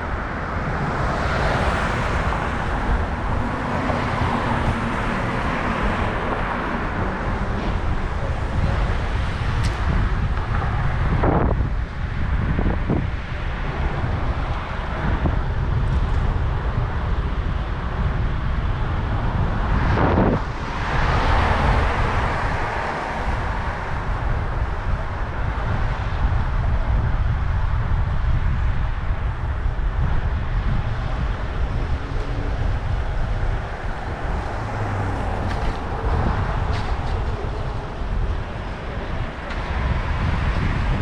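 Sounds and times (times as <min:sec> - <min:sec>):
street traffic noise: 0:00.0 - 0:41.0
wind buffeting microphone: 0:00.0 - 0:41.0.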